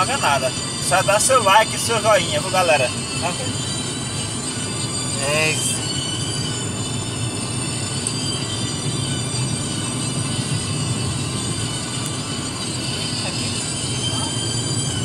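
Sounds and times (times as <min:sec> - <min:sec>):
faint high whines: 0:00.0 - 0:15.0
truck engine and road rumble: 0:00.0 - 0:15.0.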